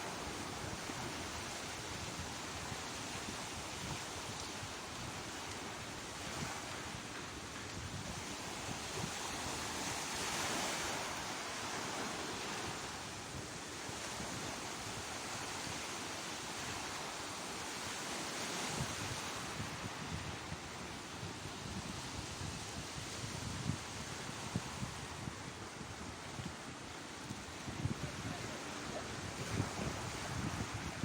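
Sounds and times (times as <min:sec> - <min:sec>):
wind gusting on microphone: 0:00.0 - 0:16.0, 0:17.7 - 0:31.0
sea waves breaking on shore: 0:00.0 - 0:31.0.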